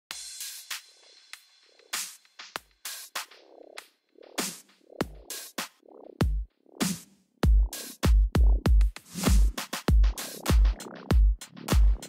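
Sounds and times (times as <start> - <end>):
electronic music: 0.2 - 12.0.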